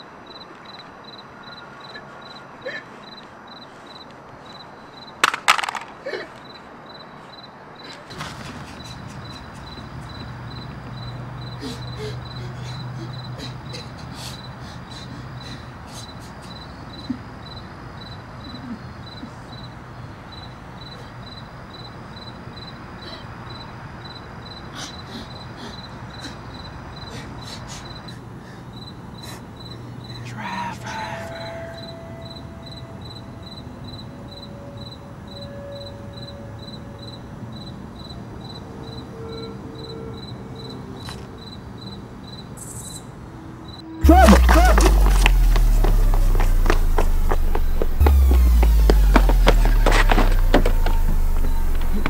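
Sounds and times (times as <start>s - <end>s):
cricket chirping: 0.0s - 52.0s
low night ambience hum: 0.0s - 52.0s.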